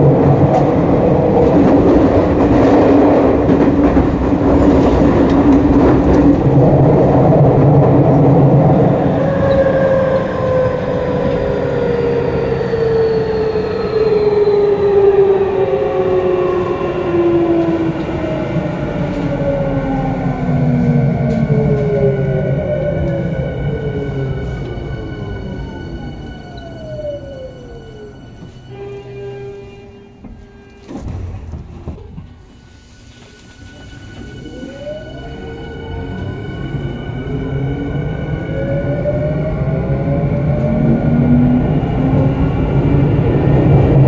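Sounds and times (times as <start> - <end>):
train wheel and rail rumble: 0.0 - 44.0.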